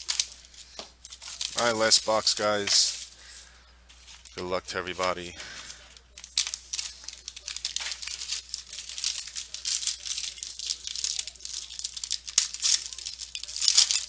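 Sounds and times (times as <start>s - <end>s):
packaging wrap tearing and rustling: 0.0s - 14.0s.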